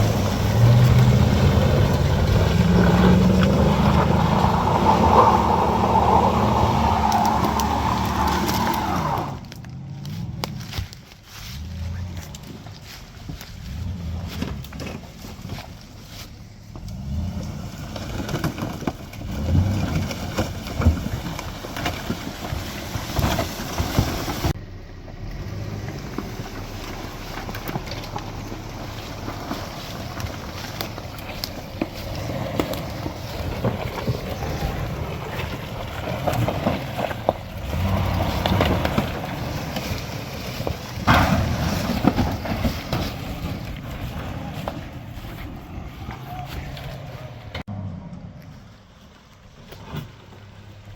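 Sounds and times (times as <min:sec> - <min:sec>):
truck engine revving: 0:00.0 - 0:48.6.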